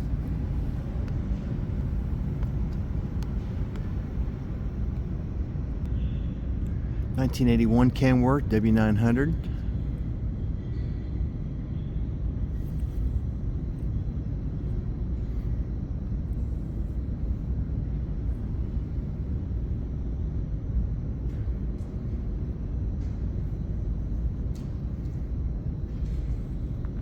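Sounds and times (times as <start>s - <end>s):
low rumble of indoor hall: 0.0s - 27.0s.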